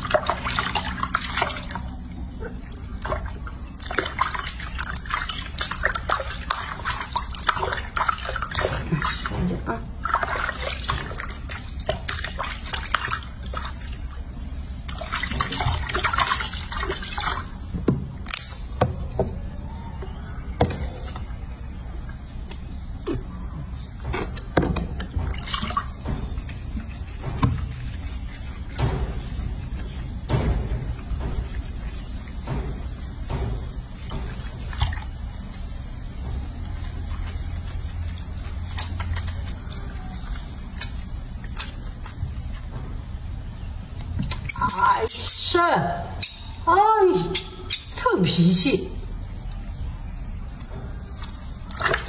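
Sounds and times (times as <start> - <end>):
water sloshing in a washbasin: 0.0 - 52.0.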